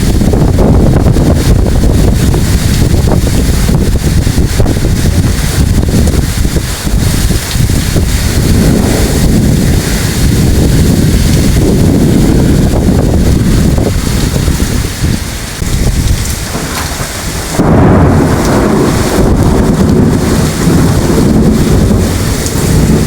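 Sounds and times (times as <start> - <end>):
heavy rain falling: 0.0 - 23.0
low rolling thunder: 0.0 - 23.0.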